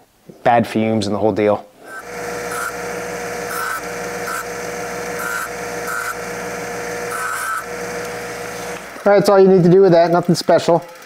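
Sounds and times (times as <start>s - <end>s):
bench grinder running: 1.9s - 11.0s
metal nut grinding on wheel: 1.9s - 11.0s.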